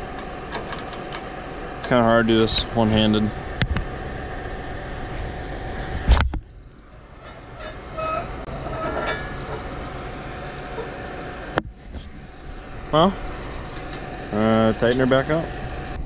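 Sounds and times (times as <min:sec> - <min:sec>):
farm vehicle engine running: 0:00.0 - 0:16.0.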